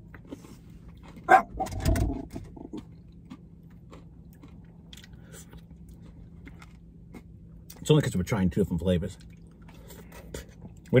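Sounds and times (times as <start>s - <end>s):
faint chewing: 0.0s - 1.5s, 2.4s - 7.9s, 9.1s - 11.0s.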